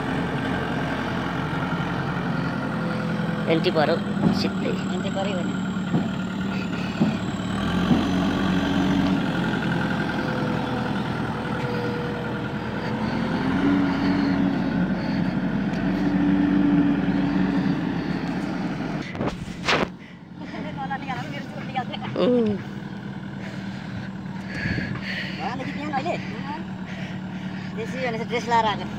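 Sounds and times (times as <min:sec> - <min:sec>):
diesel engine under load: 0:00.0 - 0:28.9.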